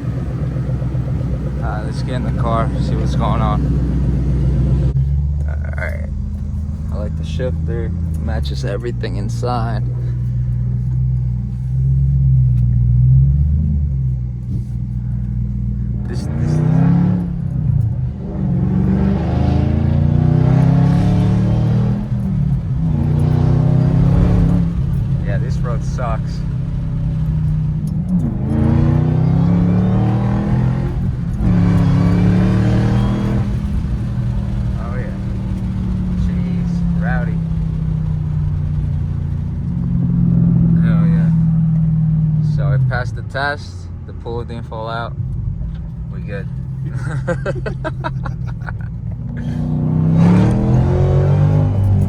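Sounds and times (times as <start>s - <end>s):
car engine deep rumble: 0.0s - 52.0s.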